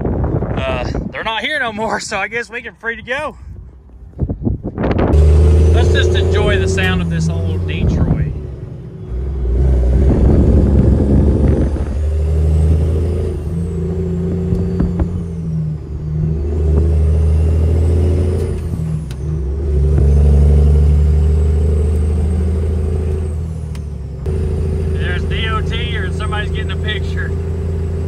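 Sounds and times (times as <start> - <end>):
truck engine pulling: 5.1 - 28.0.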